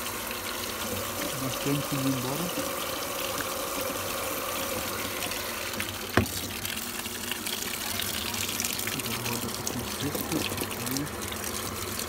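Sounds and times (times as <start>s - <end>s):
water pouring into washing machine: 0.0s - 12.0s.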